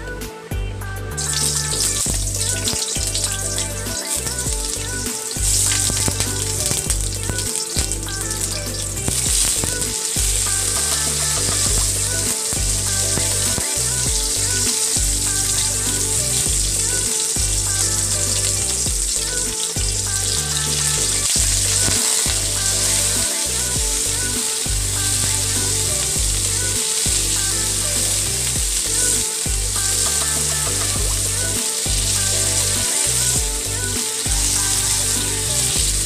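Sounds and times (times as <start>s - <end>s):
background music: 0.0s - 36.0s
vegetables sizzling in hot oil: 1.2s - 36.0s.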